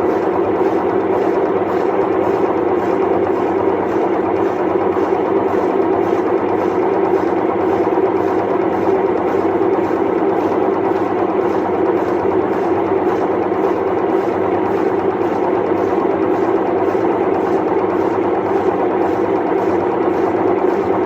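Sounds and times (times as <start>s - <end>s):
washing machine drum roaring: 0.0s - 21.0s.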